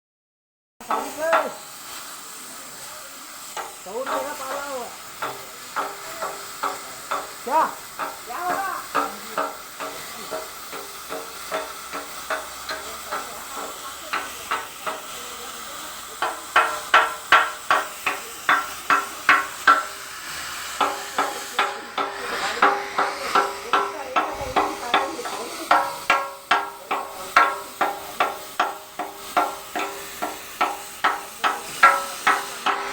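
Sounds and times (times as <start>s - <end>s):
steady hiss: 0.8s - 32.9s
metal being struck: 3.6s - 15.1s, 16.2s - 32.9s.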